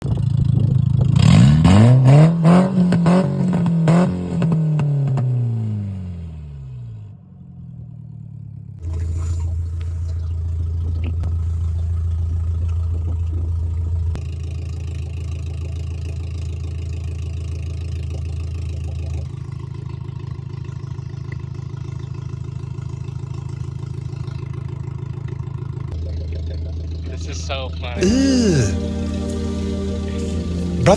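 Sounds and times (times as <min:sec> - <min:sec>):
exhaust crackles and pops: 0:00.0 - 0:05.6, 0:08.7 - 0:28.0
car engine revving: 0:00.0 - 0:30.9.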